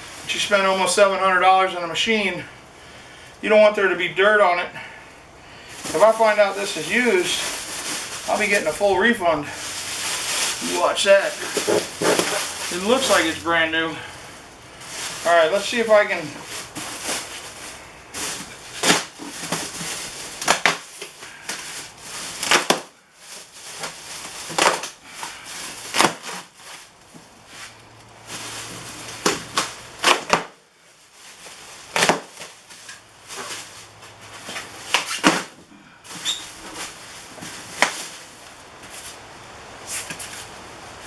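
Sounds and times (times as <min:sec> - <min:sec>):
cardboard and plastic crackling: 0:05.6 - 0:41.0.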